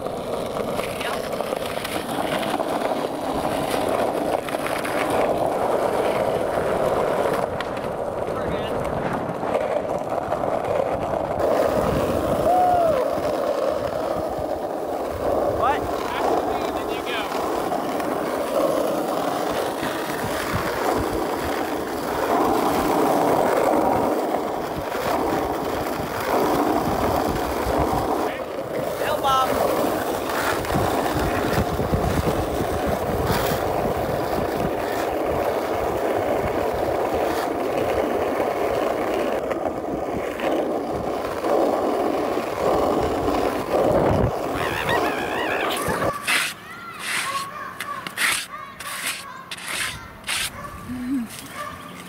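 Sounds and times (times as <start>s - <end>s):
skateboard wheels rolling on asphalt: 0.0s - 52.0s.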